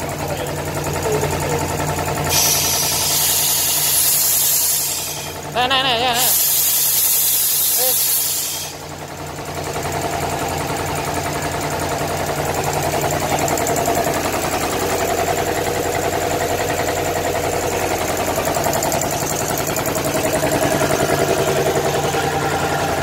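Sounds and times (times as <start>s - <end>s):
air compressor pulsing: 0.0s - 23.0s.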